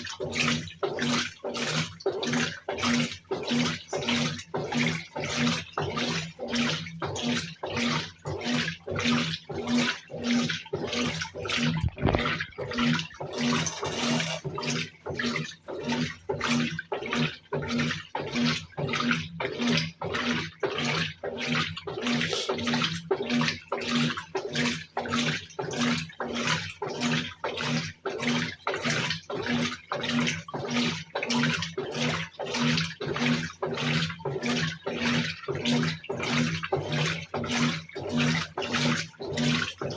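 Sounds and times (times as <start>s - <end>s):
motor hum pulsing: 0.0s - 39.9s
washing machine agitating: 0.0s - 39.9s.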